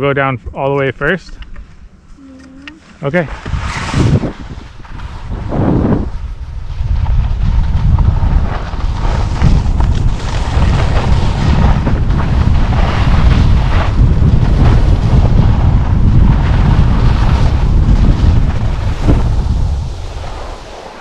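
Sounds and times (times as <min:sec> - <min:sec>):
skis scraping on snow: 0:02.8 - 0:21.0
wind buffeting microphone: 0:03.2 - 0:21.0.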